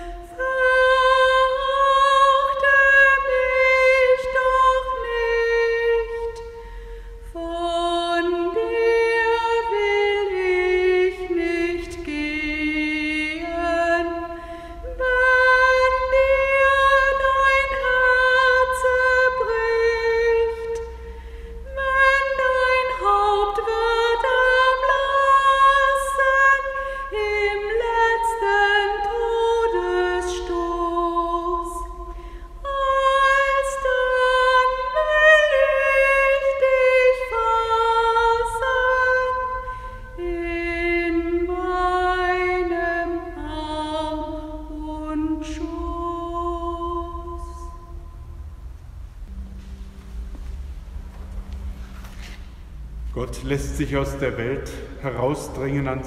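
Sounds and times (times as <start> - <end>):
woman singing unaccompanied: 0.0 - 6.6, 7.2 - 21.0, 21.6 - 48.1.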